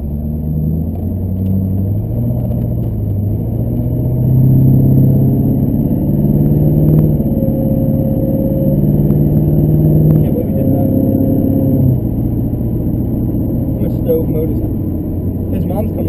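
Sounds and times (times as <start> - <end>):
diesel engine accelerating: 0.0 - 16.0.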